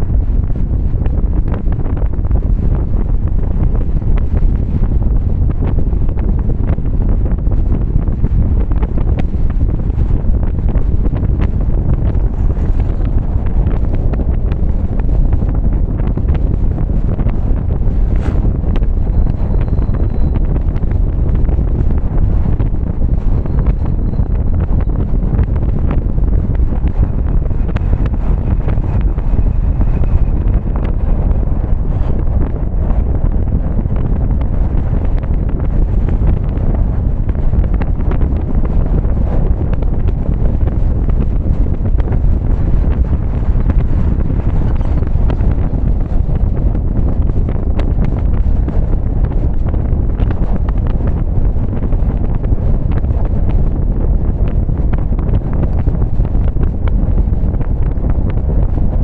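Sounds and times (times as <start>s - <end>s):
road and wind rumble: 0.0s - 59.0s.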